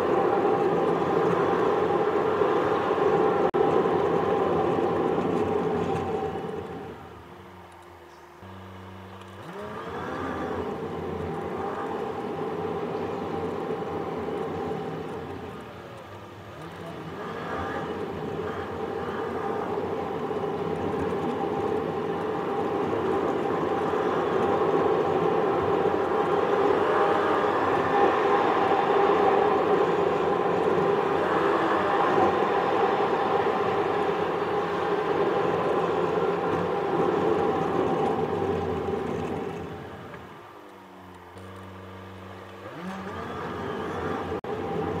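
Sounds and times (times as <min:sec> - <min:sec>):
car road and tyre noise: 0:00.0 - 0:45.0.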